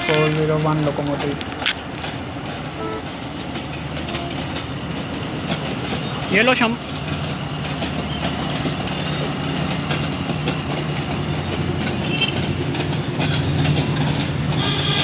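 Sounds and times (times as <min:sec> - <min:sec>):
diesel locomotive engine drone: 0:00.0 - 0:15.0
train wheels clickety-clack: 0:00.0 - 0:15.0.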